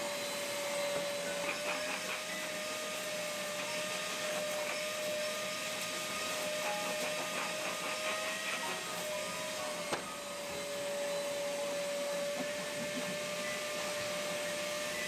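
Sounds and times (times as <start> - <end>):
small motor whining: 0.0 - 15.0.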